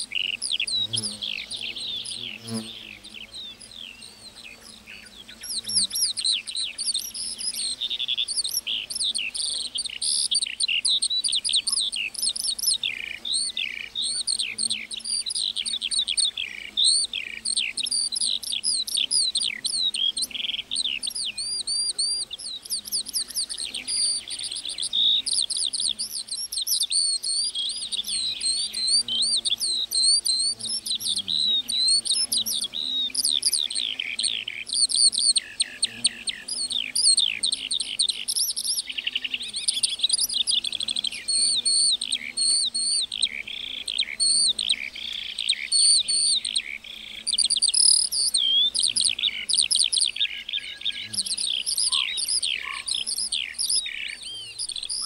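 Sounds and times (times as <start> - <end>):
lark singing: 0.0 - 55.0.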